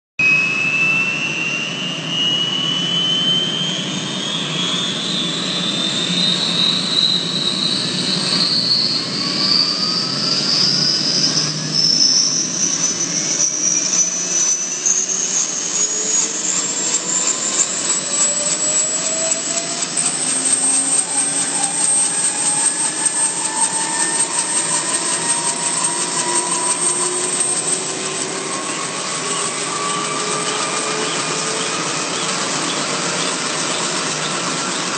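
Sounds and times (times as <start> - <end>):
helicopter rotors spinning up: 0.2 - 34.9
turbine high whine rising: 0.2 - 34.9.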